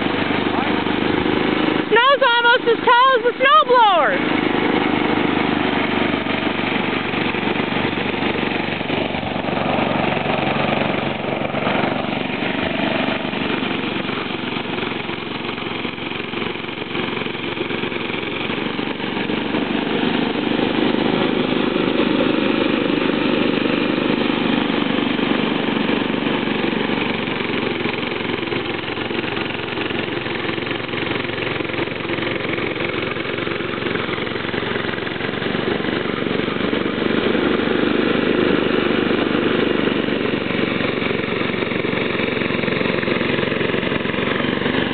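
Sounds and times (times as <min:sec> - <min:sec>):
snowblower engine running: 0:00.0 - 0:44.9.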